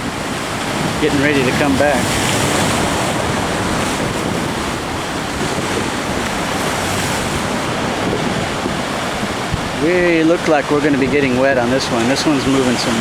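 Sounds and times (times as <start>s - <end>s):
ocean surf on rocks: 0.0s - 13.0s
wind buffeting microphone: 0.0s - 13.0s.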